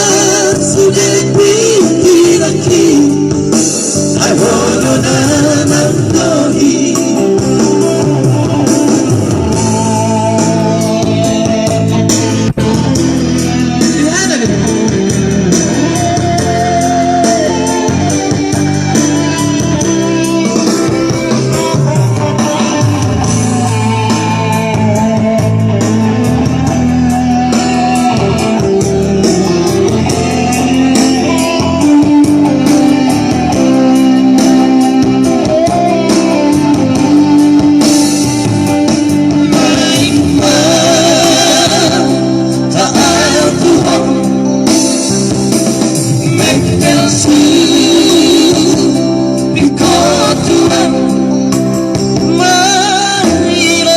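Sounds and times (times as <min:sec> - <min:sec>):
instrumental accompaniment: 0:00.0 - 0:53.9
vocal trio singing: 0:00.0 - 0:53.9.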